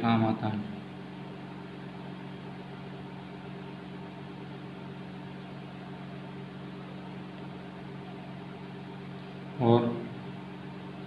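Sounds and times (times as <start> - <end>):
low hum with pitched tones: 0.0 - 11.0.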